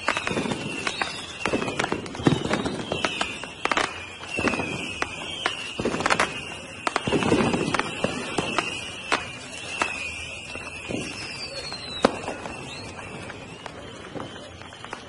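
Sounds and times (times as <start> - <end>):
fireworks bangs and crackles: 0.0 - 15.0
high whistling tone: 0.0 - 15.0.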